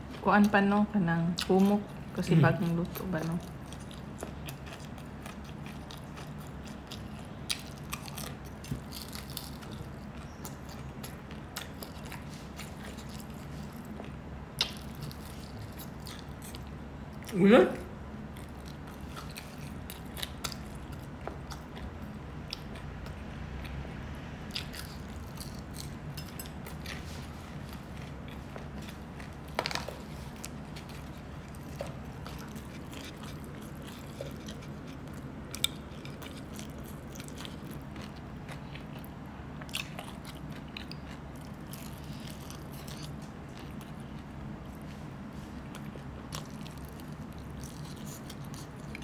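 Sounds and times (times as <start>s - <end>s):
steady low hum: 0.0s - 49.0s
food crunching: 1.4s - 17.4s, 18.0s - 23.8s, 24.4s - 49.0s
person chewing and biting: 3.4s - 17.4s, 18.2s - 23.8s, 24.4s - 49.0s.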